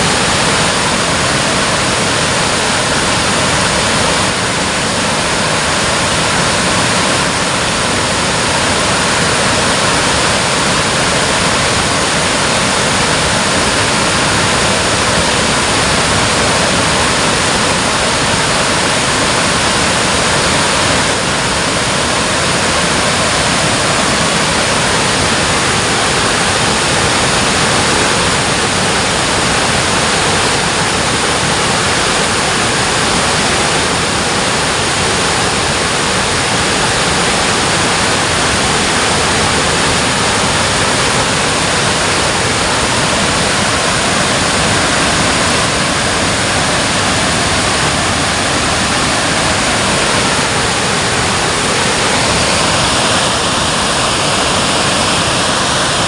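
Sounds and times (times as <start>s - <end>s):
water rushing through dam: 0.0s - 56.0s.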